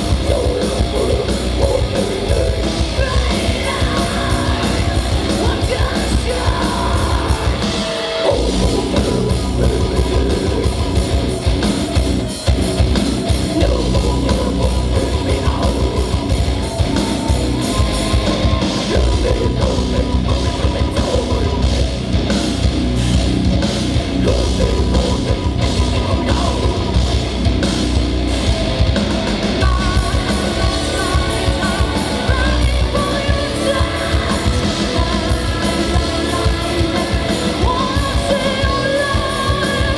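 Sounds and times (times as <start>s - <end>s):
heavy metal band playing live: 0.0s - 39.9s
yelled vocals: 0.0s - 39.9s.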